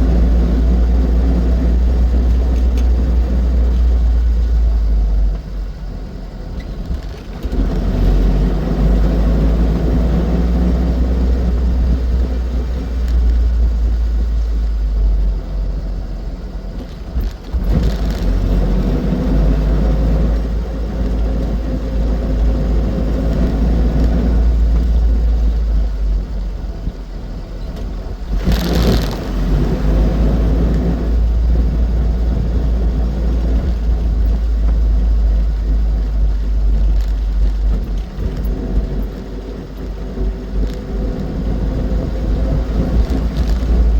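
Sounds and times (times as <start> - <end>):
road and wind rumble: 0.0 - 43.9
small car engine running: 0.0 - 43.9.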